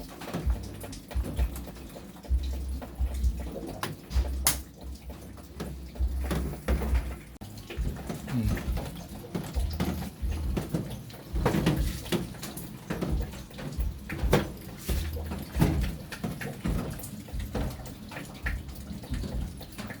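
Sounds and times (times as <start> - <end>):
knocks and clatter: 0.0 - 20.0
water splashing and sloshing: 0.0 - 20.0.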